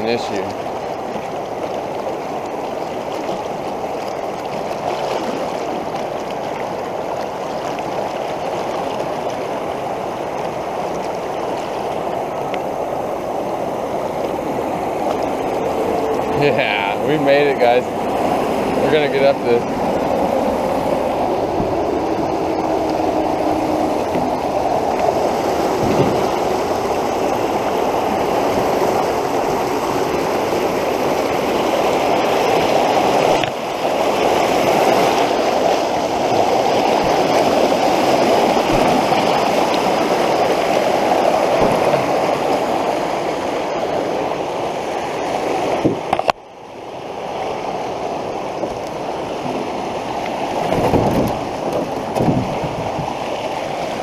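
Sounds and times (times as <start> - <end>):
creek water rushing and gurgling: 0.0 - 54.0.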